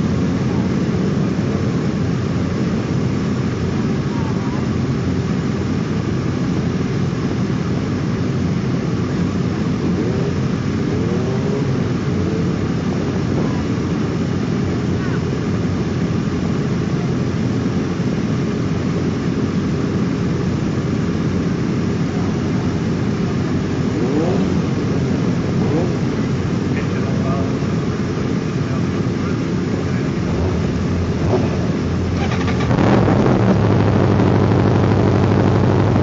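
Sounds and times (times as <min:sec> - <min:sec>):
motorcycle engines idling: 0:00.0 - 0:36.0.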